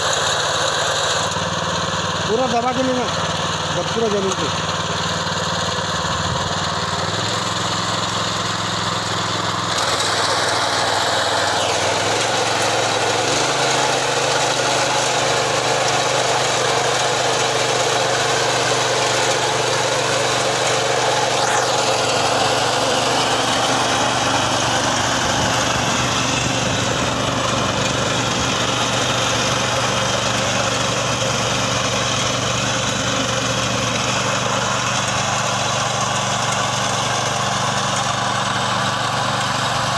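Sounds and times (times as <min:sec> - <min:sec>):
cutter bar mowing dry grass: 0:00.0 - 0:39.9
small petrol engine running: 0:00.0 - 0:39.9.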